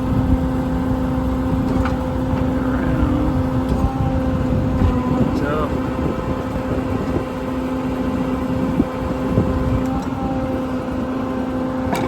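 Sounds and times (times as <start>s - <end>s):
diesel truck engine running: 0.0s - 12.0s
hydraulic whine: 0.0s - 12.0s.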